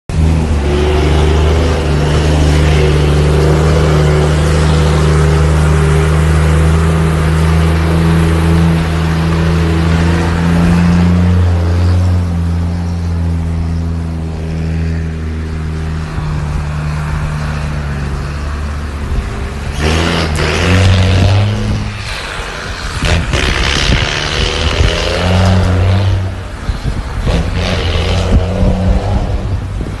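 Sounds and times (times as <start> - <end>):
diesel truck engine running: 0.1 - 30.0.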